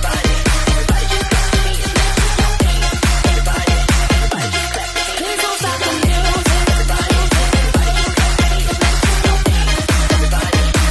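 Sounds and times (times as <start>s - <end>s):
fast kick-drum beat: 0.0s - 4.4s, 6.0s - 10.9s
electronic dance music: 0.0s - 10.9s.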